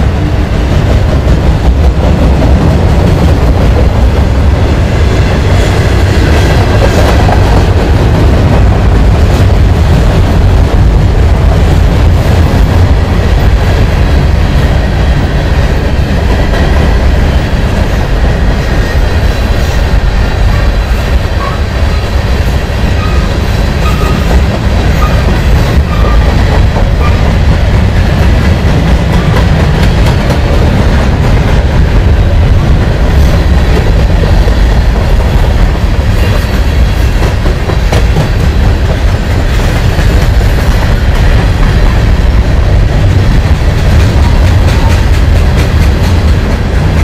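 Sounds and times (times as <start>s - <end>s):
freight train cars rolling: 0.0s - 47.0s.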